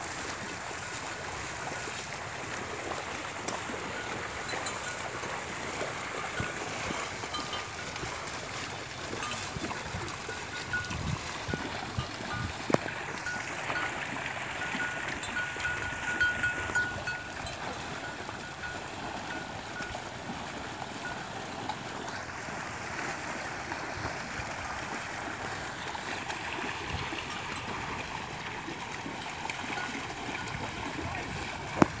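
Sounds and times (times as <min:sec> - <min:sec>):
splashing in muddy water: 0:00.0 - 0:32.0.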